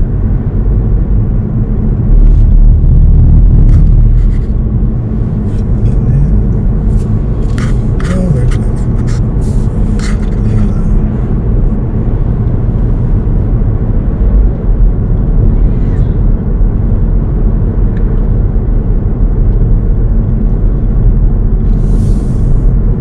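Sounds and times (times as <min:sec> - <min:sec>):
car driving on paved road: 0:00.0 - 0:23.0.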